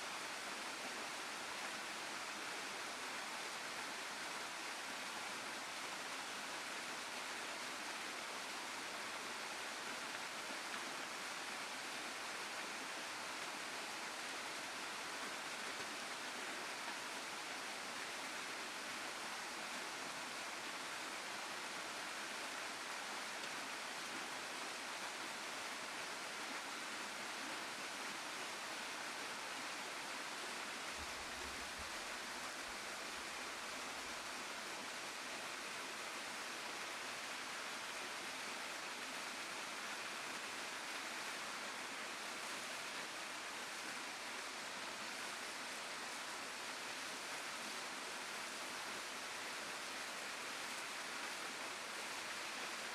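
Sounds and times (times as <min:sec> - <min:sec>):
waterfall and stream rushing: 0:00.0 - 0:52.9.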